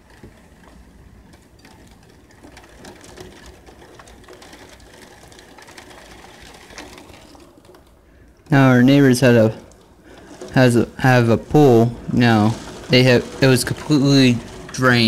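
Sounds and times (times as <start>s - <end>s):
rain falling: 0.0s - 15.0s
ticking raindrops and drips: 0.0s - 15.0s.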